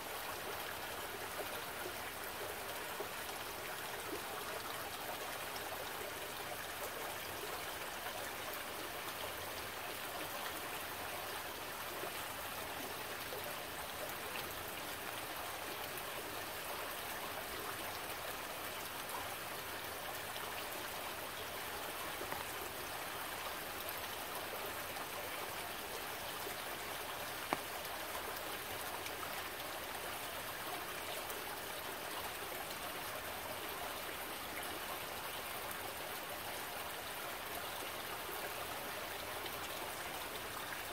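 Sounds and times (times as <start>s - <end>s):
stream splashing over rocks: 0.1s - 40.9s.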